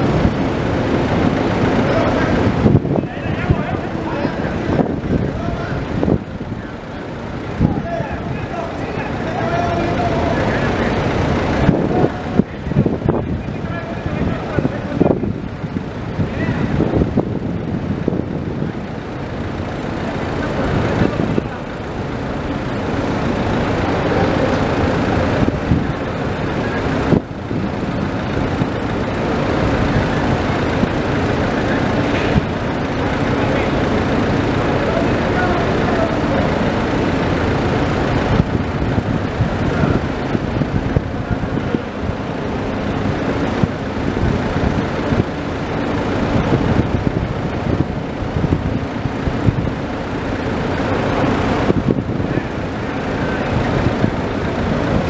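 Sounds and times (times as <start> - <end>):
heavy port machinery rumble: 0.0 - 55.0.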